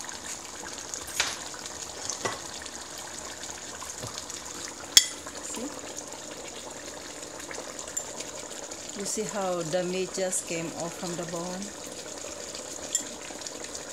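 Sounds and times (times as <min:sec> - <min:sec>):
sauce simmering in a pan: 0:00.0 - 0:13.9.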